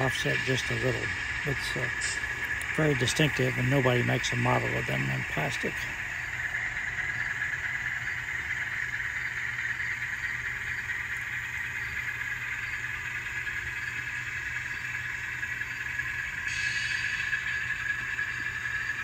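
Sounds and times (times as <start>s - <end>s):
model locomotive diesel engine sound: 0.0s - 19.0s.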